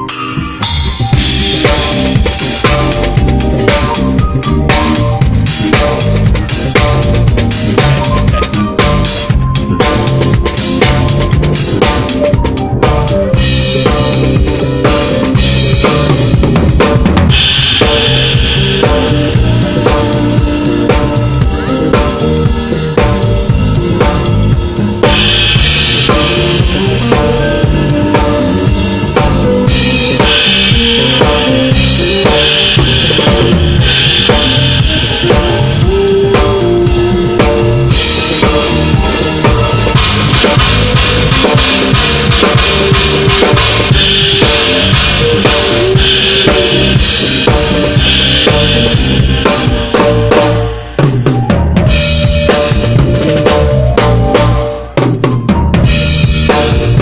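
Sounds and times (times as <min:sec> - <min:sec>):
drum-led music: 0:00.0 - 0:57.0.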